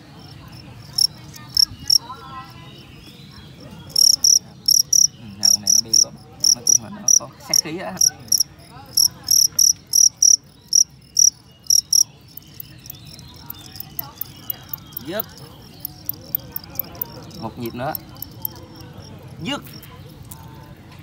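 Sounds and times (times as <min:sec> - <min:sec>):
cricket chirping: 0:00.0 - 0:02.9, 0:03.6 - 0:20.6.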